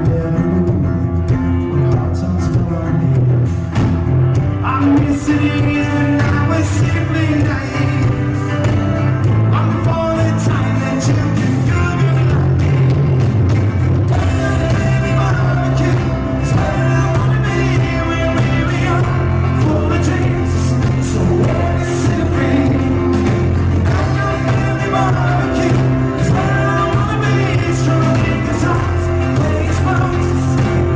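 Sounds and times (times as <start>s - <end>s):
person singing: 0.0s - 30.9s
rock band playing: 0.0s - 30.9s.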